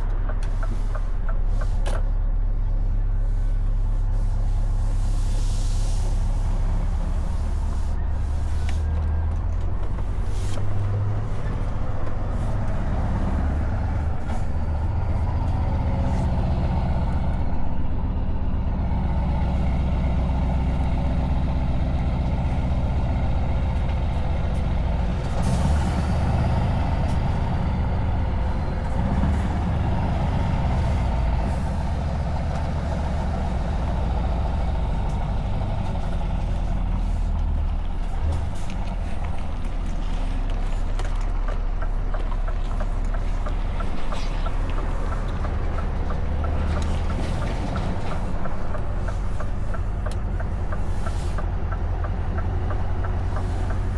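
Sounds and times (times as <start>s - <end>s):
truck engine through open exhaust: 0.0s - 53.9s.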